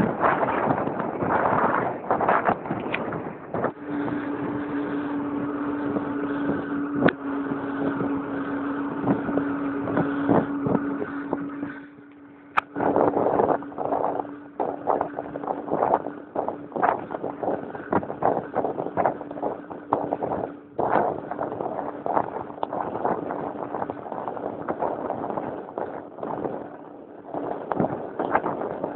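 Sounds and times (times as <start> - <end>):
steady low hum: 0.0 - 28.9
wind buffeting microphone: 0.0 - 28.9.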